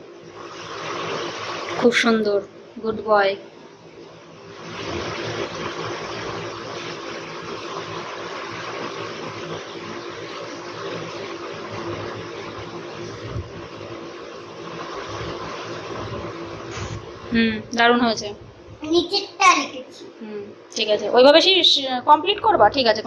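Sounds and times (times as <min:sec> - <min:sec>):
electric fan whirring: 0:00.0 - 0:23.0.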